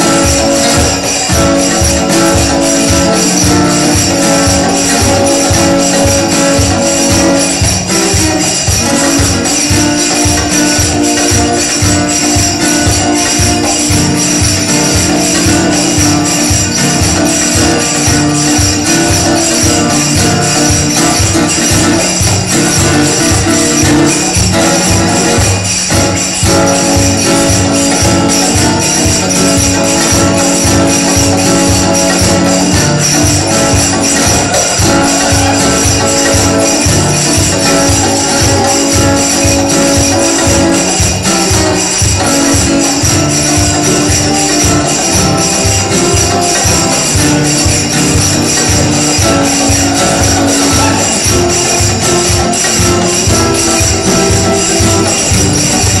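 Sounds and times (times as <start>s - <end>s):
acoustic guitars: 0.0s - 56.0s
jingling tambourine: 0.0s - 56.0s
live band music: 0.0s - 56.0s
steady drum beat: 0.0s - 56.0s.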